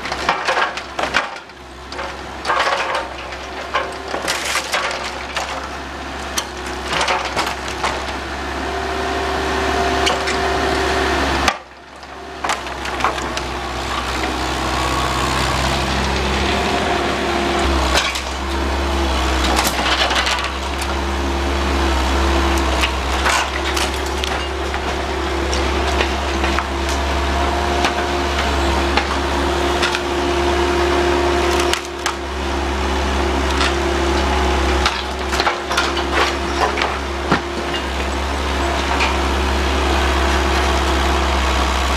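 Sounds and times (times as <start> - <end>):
wood cracking and splintering: 0.0 - 8.6, 11.4 - 41.9
excavator engine and hydraulics: 0.0 - 41.9.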